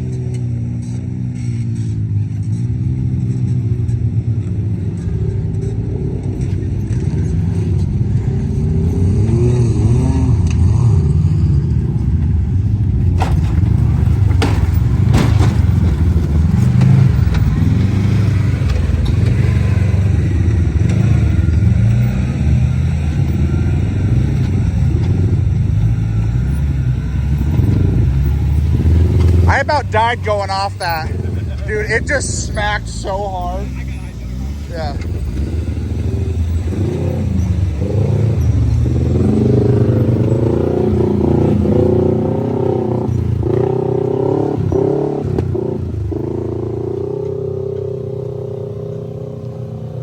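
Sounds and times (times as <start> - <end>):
engine revving: 0.0 - 50.0.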